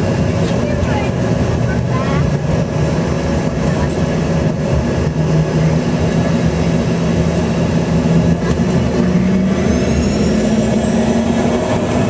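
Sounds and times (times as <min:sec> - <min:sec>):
jet engines spooling up: 0:00.0 - 0:12.0.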